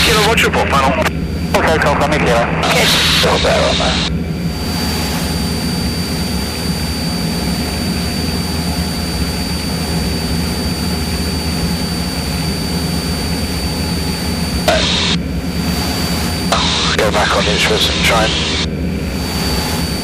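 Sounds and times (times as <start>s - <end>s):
propeller plane engine droning: 0.0s - 20.0s
thin high whine: 0.0s - 20.0s.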